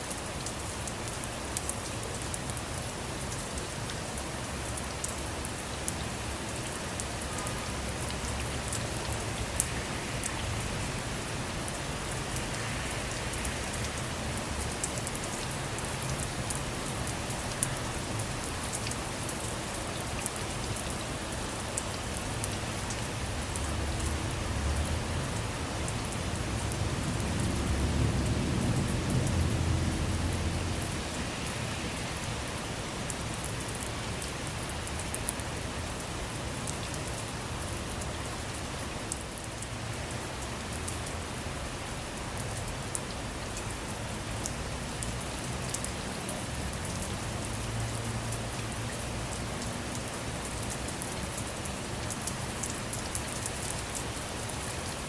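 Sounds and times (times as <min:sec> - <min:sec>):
rain on a car roof: 0:00.0 - 0:55.0.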